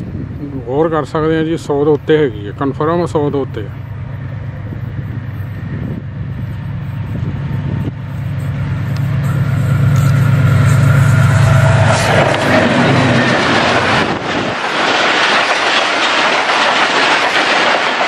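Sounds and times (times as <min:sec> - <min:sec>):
diesel locomotive engine drone: 0:00.0 - 0:18.0
train rushing past: 0:00.0 - 0:18.0.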